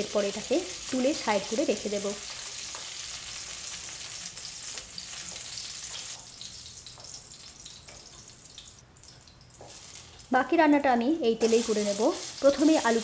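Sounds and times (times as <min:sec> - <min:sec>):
vegetables sizzling in oil: 0:00.0 - 0:08.9, 0:09.5 - 0:10.6, 0:11.4 - 0:13.0.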